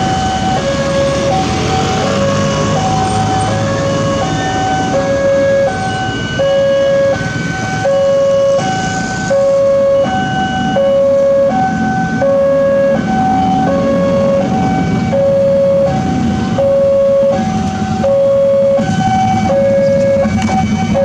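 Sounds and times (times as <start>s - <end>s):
level-crossing two-tone alarm: 0.0s - 21.0s.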